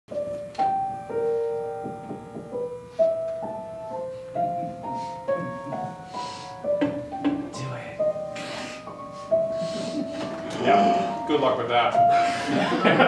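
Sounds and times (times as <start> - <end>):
solo piano: 0.1 - 13.0.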